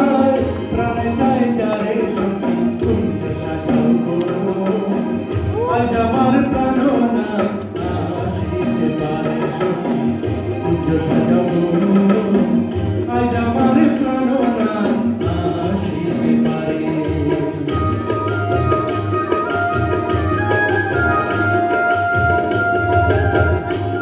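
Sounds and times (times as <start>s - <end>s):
steady percussion: 0.0s - 24.0s.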